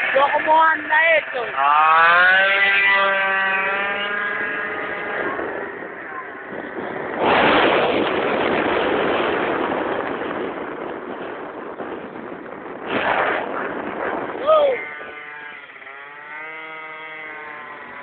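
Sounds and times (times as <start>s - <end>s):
moped engine high revs: 0.0s - 9.8s, 12.9s - 18.0s
loud steady rushing noise: 0.0s - 18.0s.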